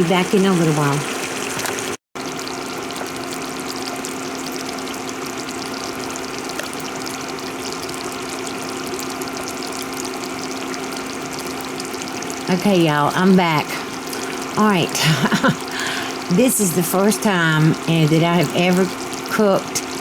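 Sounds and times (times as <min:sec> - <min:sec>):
squash simmering and crackling in oil: 0:00.0 - 0:20.0.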